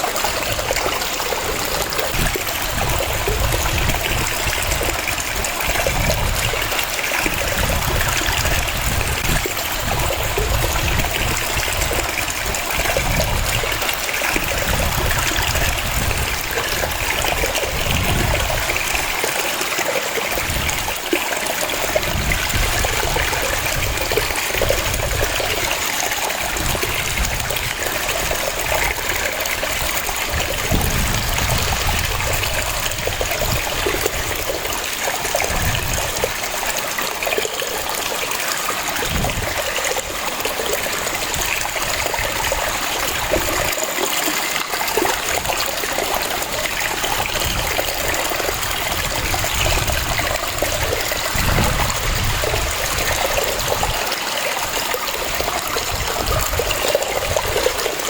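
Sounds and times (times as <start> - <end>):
waterfall splashing: 0.0 - 58.0.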